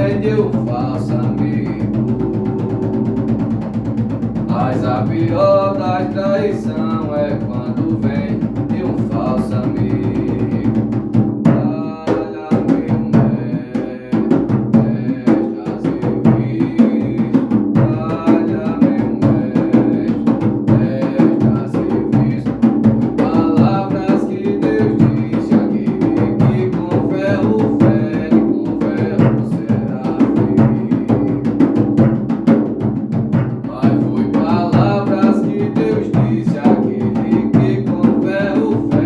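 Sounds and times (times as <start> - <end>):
hand drum rhythm: 0.0 - 39.0.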